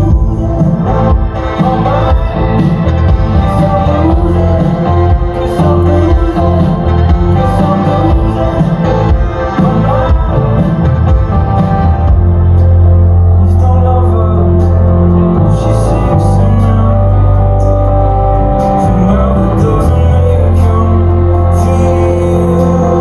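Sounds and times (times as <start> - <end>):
live band music through pa: 0.0 - 23.0
person singing: 0.0 - 23.0.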